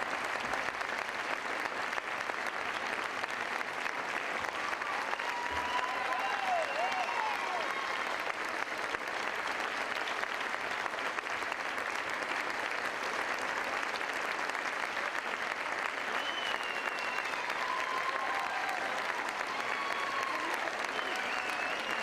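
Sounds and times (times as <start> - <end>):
crowd applauding: 0.0 - 22.0.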